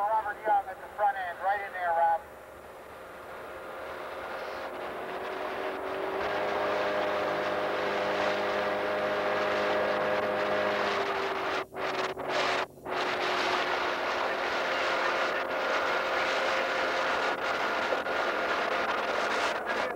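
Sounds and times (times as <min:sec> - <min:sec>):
boat engine running: 0:00.0 - 0:19.9.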